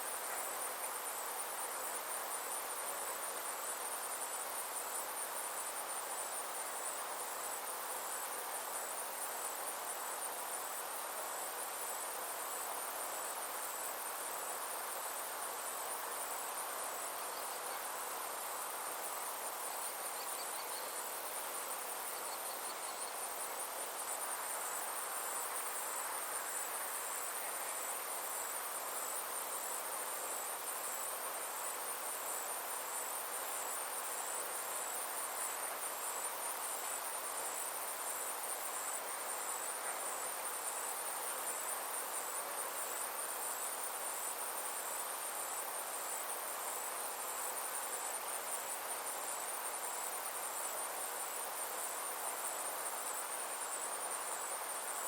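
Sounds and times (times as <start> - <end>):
insects trilling: 0.0 - 55.0
outdoor background hiss: 0.0 - 55.0.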